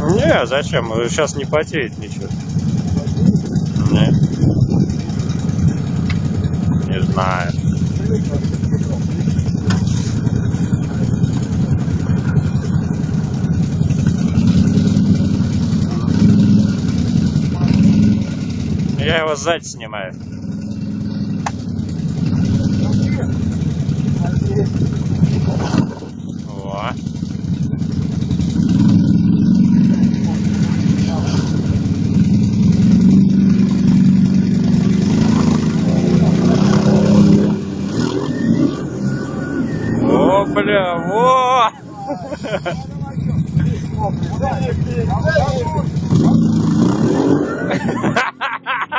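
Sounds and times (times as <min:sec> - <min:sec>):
atv engine idling: 0:00.0 - 0:48.9.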